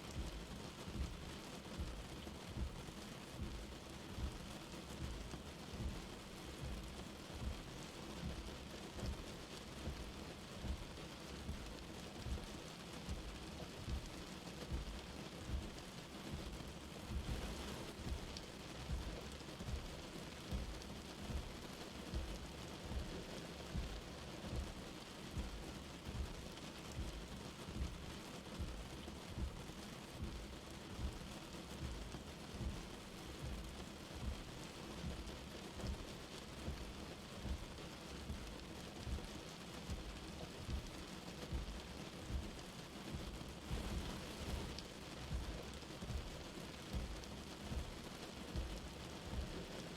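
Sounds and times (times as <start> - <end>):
light rain hiss: 0.0 - 49.9.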